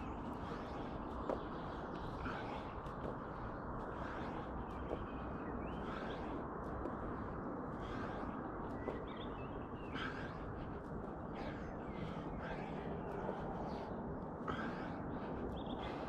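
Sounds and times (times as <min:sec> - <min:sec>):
outdoor background noise: 0:00.0 - 0:16.0
small birds chirping: 0:00.0 - 0:16.0.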